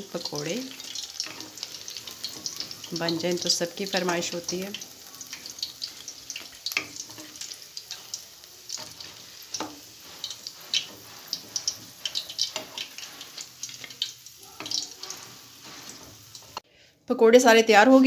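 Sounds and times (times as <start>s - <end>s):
fritters sizzling in hot oil: 0.0s - 16.7s.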